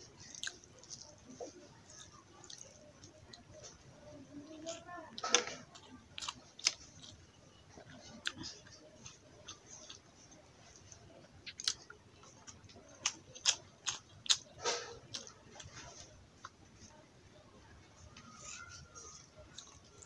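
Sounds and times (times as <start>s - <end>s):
chewing and mouth smacking: 0.1s - 3.8s, 4.6s - 7.2s, 7.8s - 16.6s, 18.4s - 20.0s.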